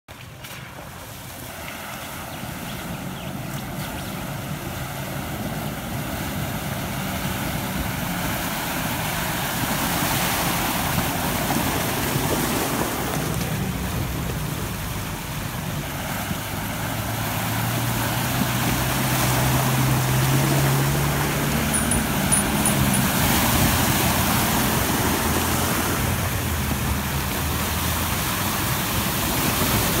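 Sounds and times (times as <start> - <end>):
vehicle engines running low: 0.1 - 30.0
water splashing around wheels: 0.1 - 30.0.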